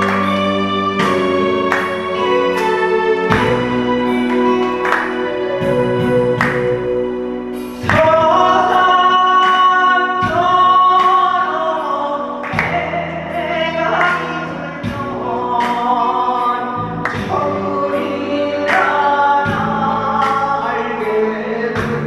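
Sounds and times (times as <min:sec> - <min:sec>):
choir-like vocals: 0:00.0 - 0:22.0
keyboard accompaniment: 0:00.0 - 0:22.0.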